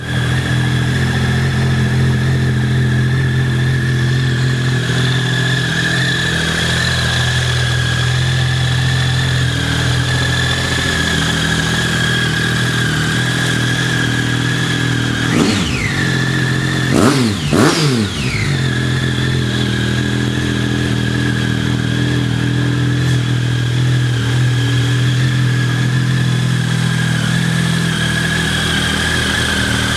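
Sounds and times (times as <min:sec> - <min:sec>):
engine throttle blips: 0:00.0 - 0:29.9
motorcycle engine idling: 0:00.0 - 0:29.9.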